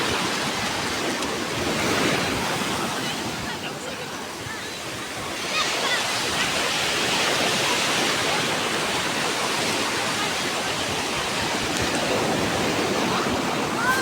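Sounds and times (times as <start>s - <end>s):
waves breaking: 0.0s - 14.0s.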